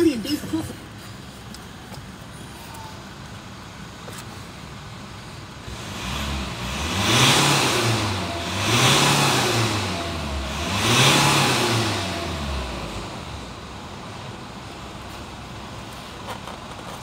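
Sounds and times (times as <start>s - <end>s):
diesel engine idling and revving: 0.0s - 17.0s.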